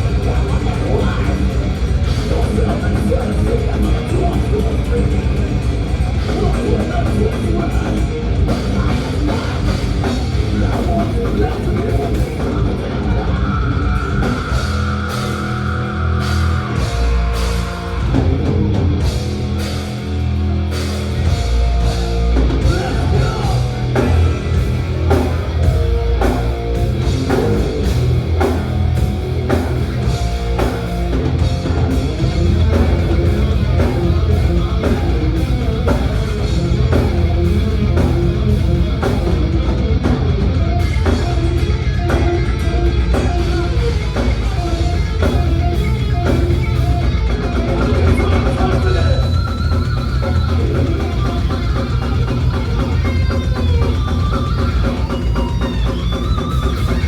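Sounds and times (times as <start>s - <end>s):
bass guitar: 0.0s - 57.0s
distorted electric guitars: 0.0s - 57.0s
pounding drum kit: 0.0s - 57.0s.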